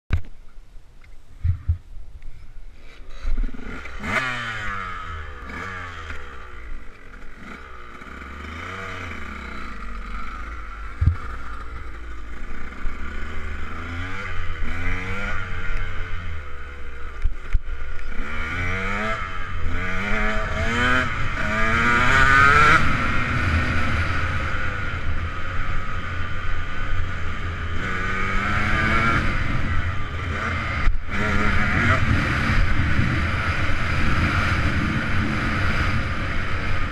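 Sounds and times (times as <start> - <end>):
two-stroke engine revving hard: 3.2 - 17.3, 17.9 - 36.9.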